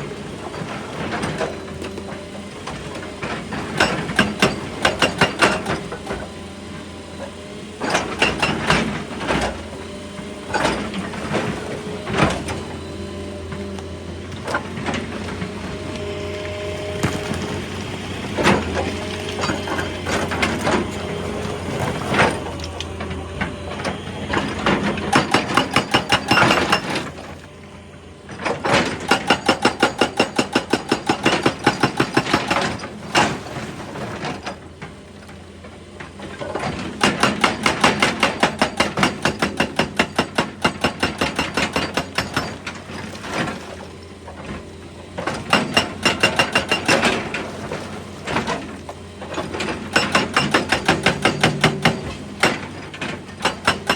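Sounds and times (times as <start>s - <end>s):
excavator engine hum: 0.0s - 53.9s
hydraulic breaker hammering rock: 0.0s - 53.9s.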